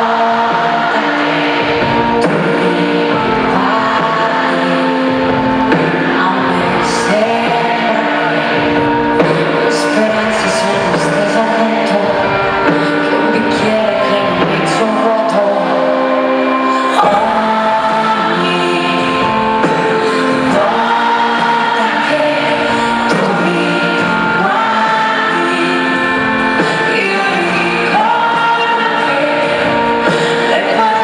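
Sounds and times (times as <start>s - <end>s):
backing vocals: 0.0s - 31.0s
band accompaniment: 0.0s - 31.0s
woman singing lead vocal: 0.0s - 31.0s.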